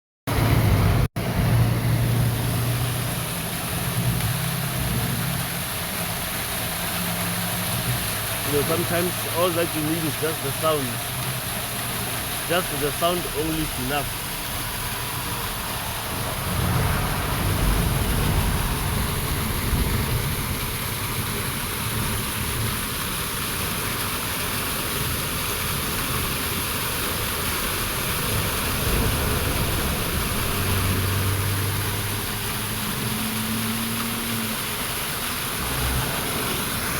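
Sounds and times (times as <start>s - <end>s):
waterfall rushing: 1.2s - 36.9s.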